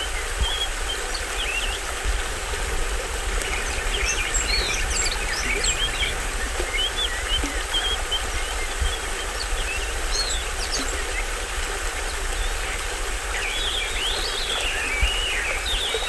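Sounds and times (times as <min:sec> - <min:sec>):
water rushing in small waterfall: 0:00.0 - 0:16.0
birds chirping and whistling: 0:00.4 - 0:11.3, 0:12.0 - 0:16.0.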